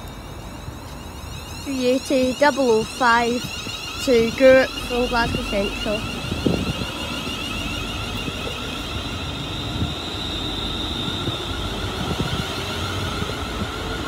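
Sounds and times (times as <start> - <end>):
electric train whine: 0.0 - 14.0
train rumble: 0.0 - 14.0.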